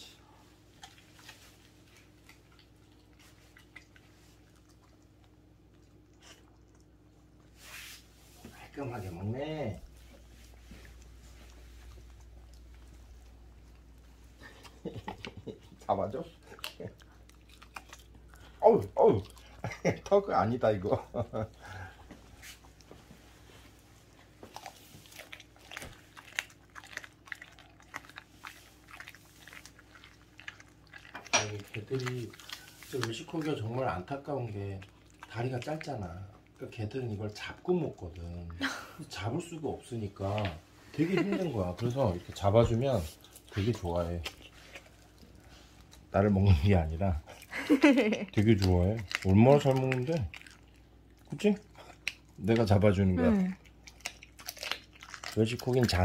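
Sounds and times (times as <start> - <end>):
dog chewing raw chicken: 0.6 - 7.6, 8.6 - 56.0.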